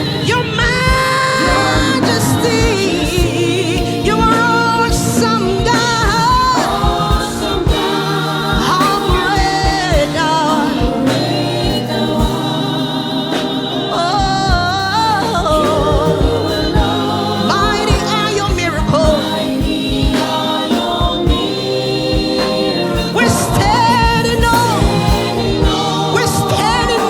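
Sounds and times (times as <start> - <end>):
band with bass and beat: 0.0 - 27.0
choir singing: 0.0 - 27.0
person singing: 0.0 - 27.0.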